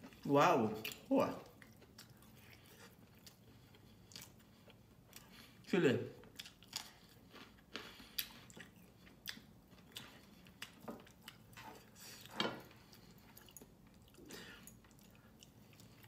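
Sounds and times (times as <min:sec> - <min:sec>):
wet chewing and lip smacks: 0:00.0 - 0:16.0.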